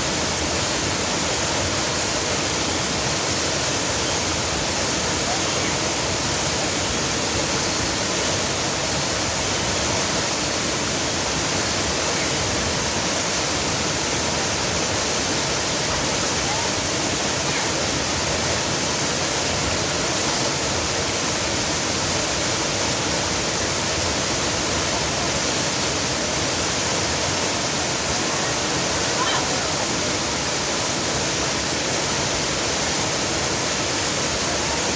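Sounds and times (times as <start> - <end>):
rushing water roar: 0.0 - 34.9.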